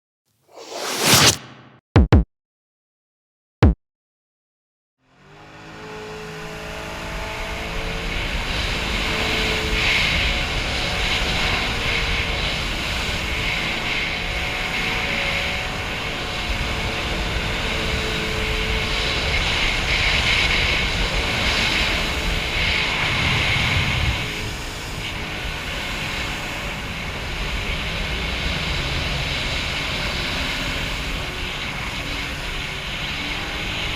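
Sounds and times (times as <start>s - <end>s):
personal watercraft engine: 5.2s - 33.9s.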